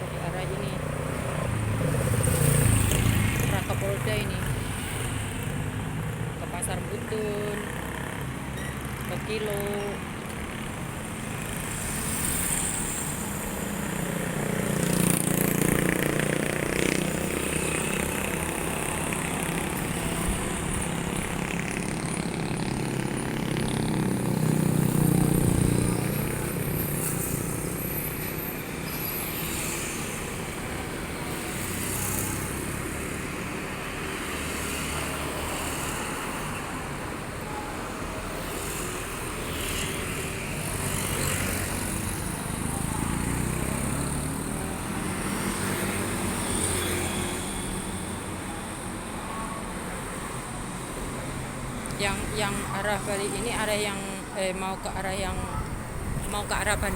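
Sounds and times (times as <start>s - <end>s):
road and wind noise: 0.0s - 56.9s
surrounding traffic: 0.0s - 56.9s.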